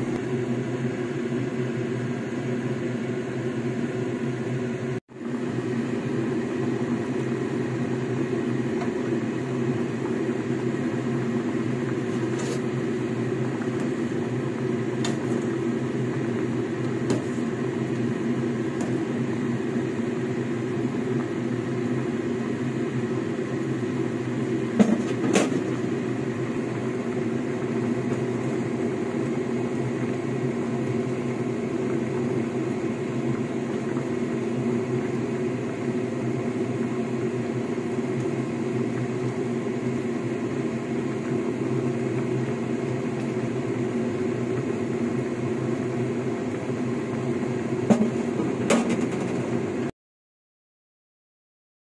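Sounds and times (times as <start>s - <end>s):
kitchen fan whirring hum: 0.0s - 49.9s.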